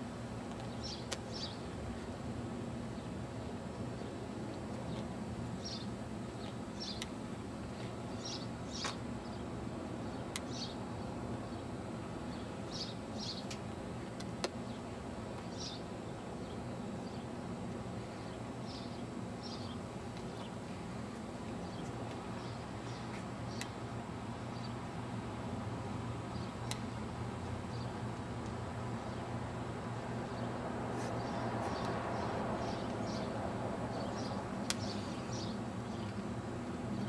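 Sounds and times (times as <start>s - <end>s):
outdoor background hiss and hum: 0.0s - 37.0s.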